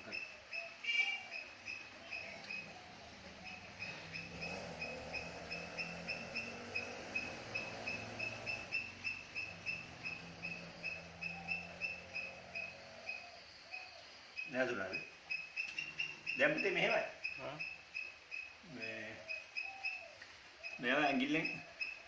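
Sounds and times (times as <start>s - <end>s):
bird chirping rapidly: 0.0s - 22.0s.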